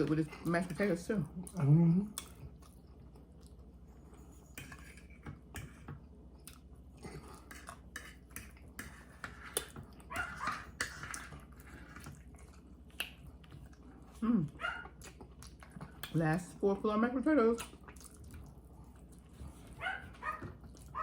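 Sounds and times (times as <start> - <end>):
person chewing: 1.4 - 16.2, 17.6 - 21.0.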